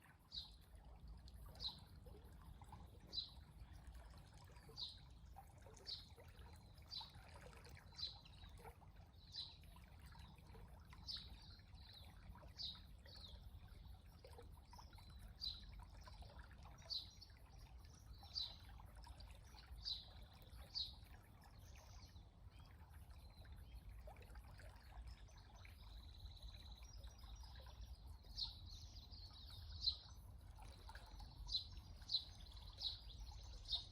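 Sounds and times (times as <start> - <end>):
stream trickling: 0.0 - 33.9.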